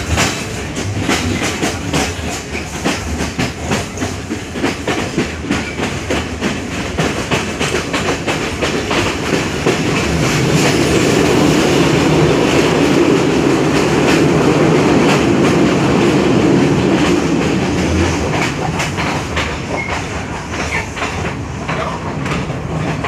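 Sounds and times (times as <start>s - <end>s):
clickety-clack over rail joints: 0.0s - 23.0s
train wheels rumbling on rails: 0.0s - 23.0s.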